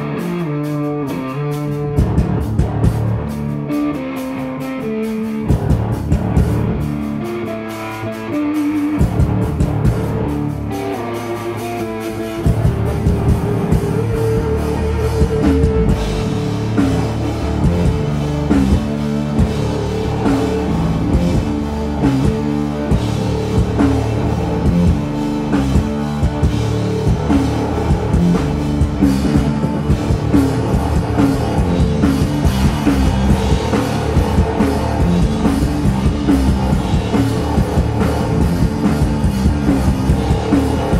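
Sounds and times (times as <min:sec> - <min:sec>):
live rock band playing: 0:00.0 - 0:40.9
dense drumming: 0:01.5 - 0:03.6, 0:05.4 - 0:07.5, 0:09.0 - 0:40.9.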